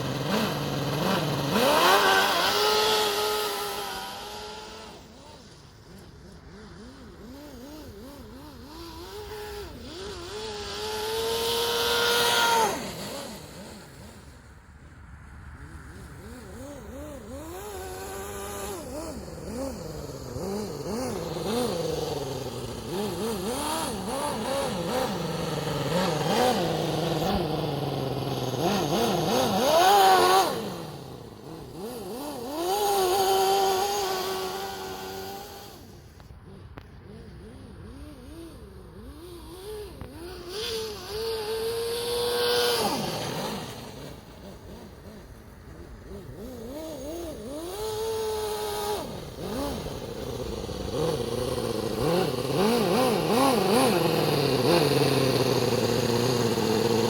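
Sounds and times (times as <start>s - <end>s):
model engine revving: 0.0s - 14.9s, 15.6s - 57.0s.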